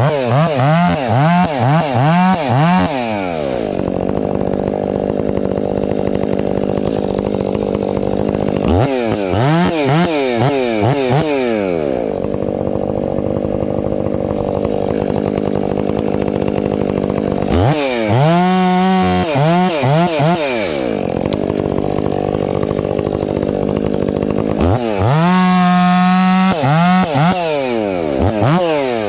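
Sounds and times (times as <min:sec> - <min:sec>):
chainsaw engine revving: 0:00.0 - 0:29.0
chainsaw idling: 0:00.0 - 0:29.0.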